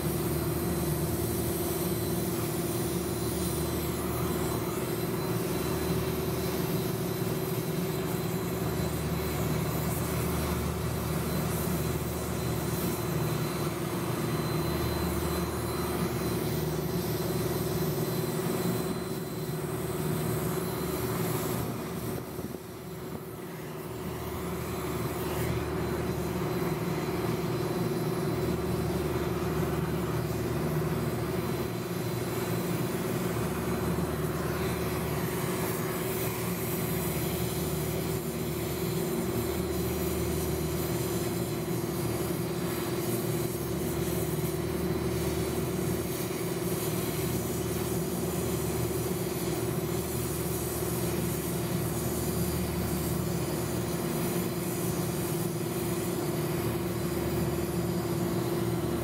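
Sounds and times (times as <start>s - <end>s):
hvac machinery drone: 0.0s - 59.0s.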